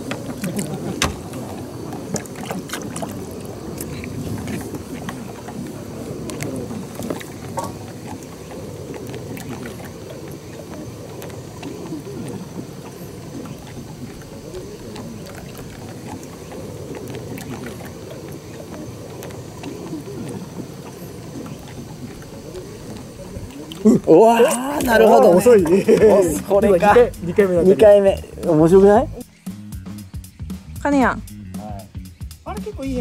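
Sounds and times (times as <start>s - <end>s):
water sloshing and lapping: 0.0s - 28.6s.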